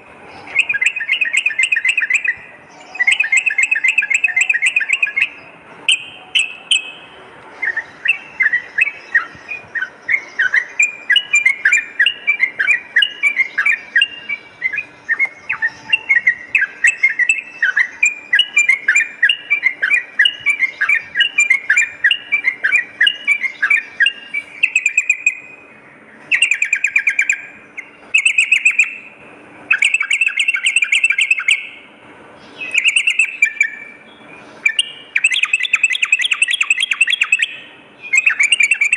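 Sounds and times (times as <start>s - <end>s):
bulbuls singing: 0.0s - 38.9s.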